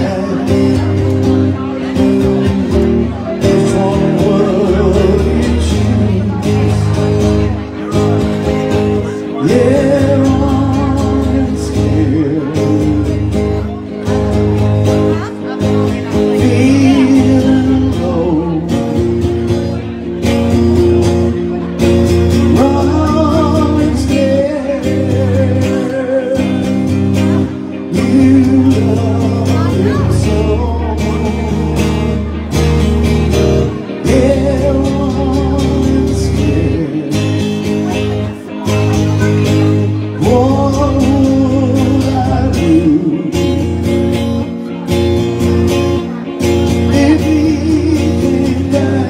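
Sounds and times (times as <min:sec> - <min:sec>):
man singing: 0:00.0 - 0:49.0
strummed electric guitar: 0:00.0 - 0:49.0.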